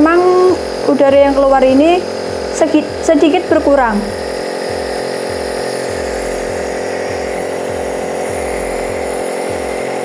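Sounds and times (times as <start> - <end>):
nebulizer compressor humming: 0.0 - 10.0.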